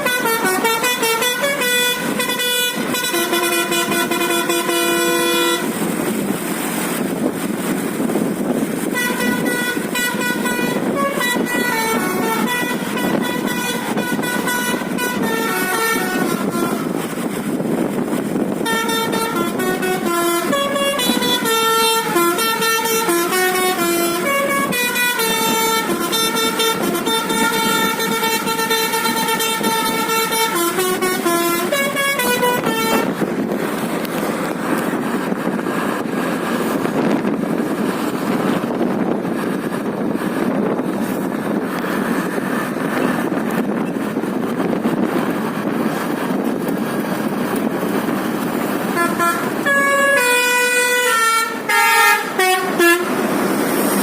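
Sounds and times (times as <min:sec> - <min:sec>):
multi-tone bus air horn melody: 0:00.0 - 0:46.5, 0:47.8 - 0:54.0.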